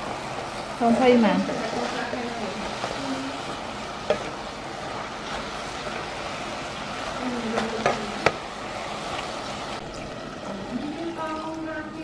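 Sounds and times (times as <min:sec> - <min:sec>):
spatula stirring in a pot: 0:00.0 - 0:10.5
food sizzling: 0:00.0 - 0:12.0.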